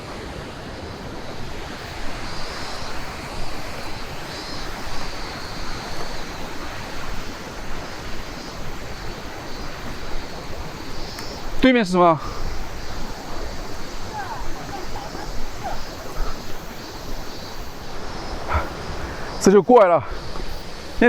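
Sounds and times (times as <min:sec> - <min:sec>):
river water rushing: 0:00.0 - 0:21.0
wind buffeting microphone: 0:00.0 - 0:21.0.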